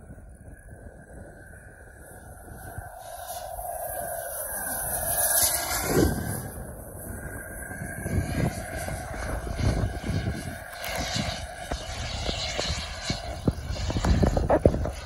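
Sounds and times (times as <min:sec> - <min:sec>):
distant jet turbine whine: 0:00.0 - 0:15.0
wind buffeting microphone: 0:00.0 - 0:15.0.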